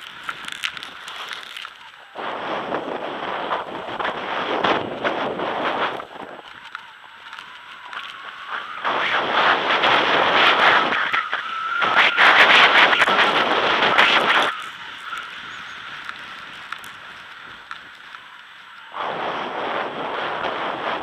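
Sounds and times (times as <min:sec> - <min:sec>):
skis scraping over snow: 0:00.0 - 0:21.0
wind on microphone: 0:00.0 - 0:21.0.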